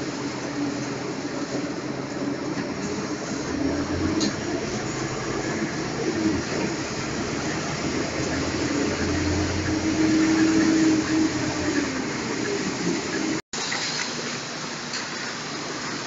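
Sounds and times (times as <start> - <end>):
engine hum: 0.0 - 13.4
vehicle interior running noise: 0.0 - 13.4.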